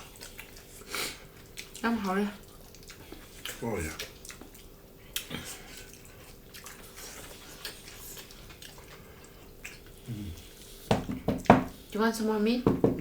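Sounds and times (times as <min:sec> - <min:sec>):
wet chewing sounds: 0:00.0 - 0:12.0
faint steady hum: 0:00.0 - 0:13.0.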